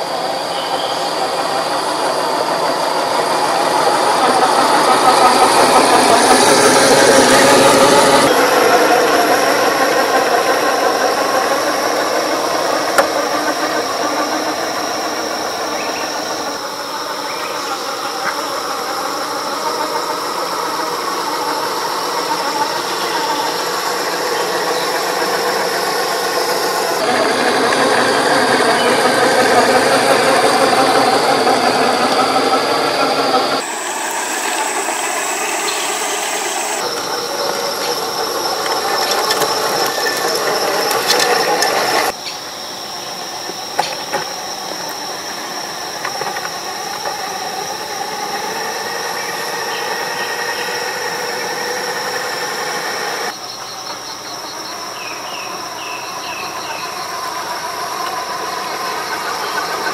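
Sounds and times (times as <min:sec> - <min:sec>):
electric motor and gearbox whine: 0:00.0 - 0:59.9
high squeal: 0:00.0 - 0:59.9.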